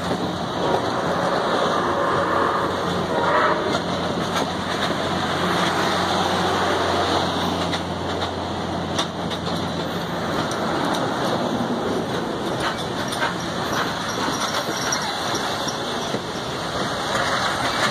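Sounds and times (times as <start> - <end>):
train wheels rumbling on rail: 0.0 - 17.9.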